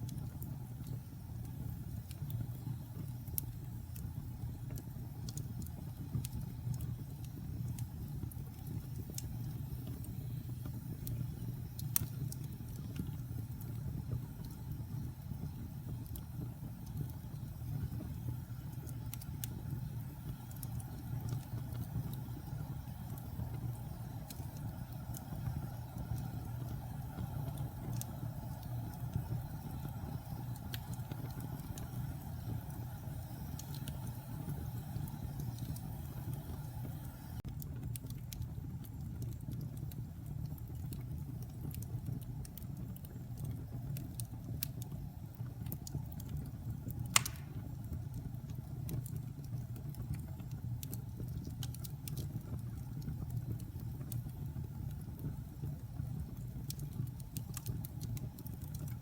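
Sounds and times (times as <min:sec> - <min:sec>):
fire crackling and popping: 0:00.0 - 0:59.0
fire roaring: 0:00.1 - 0:39.0, 0:40.5 - 0:59.0.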